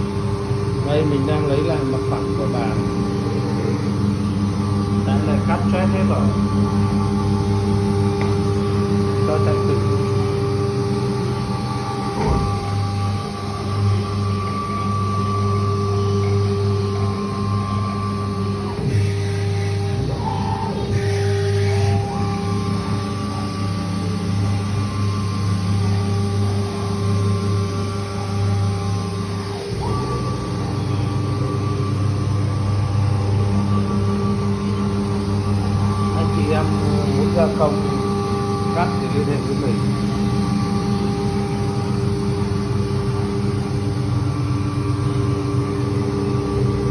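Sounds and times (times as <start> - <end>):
cnc router motor hum and whine: 0.0 - 46.9.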